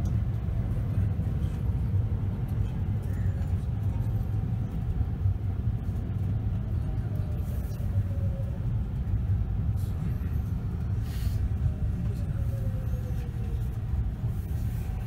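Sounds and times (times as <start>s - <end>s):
faint motor whine: 0.0s - 15.0s
train wheels rumbling on track: 0.0s - 15.0s.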